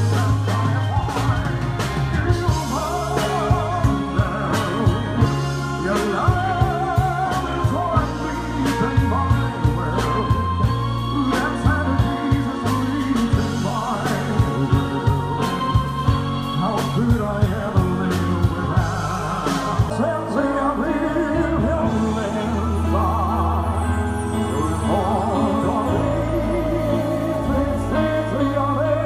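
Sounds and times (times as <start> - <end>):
bass: 0.0 - 29.0
person singing: 0.0 - 29.0.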